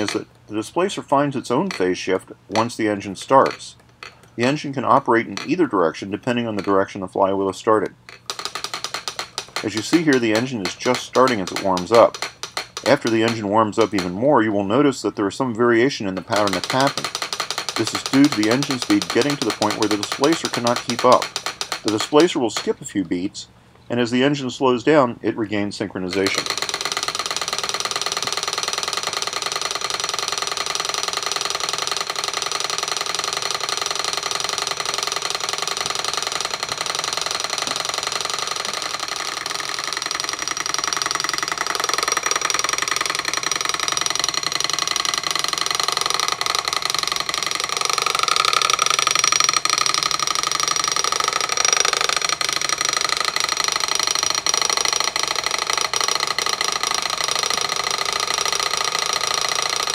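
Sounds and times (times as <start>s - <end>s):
small engine tapping rapidly: 0.0s - 0.3s, 1.6s - 7.0s, 7.8s - 14.8s, 15.7s - 22.8s, 26.1s - 59.9s.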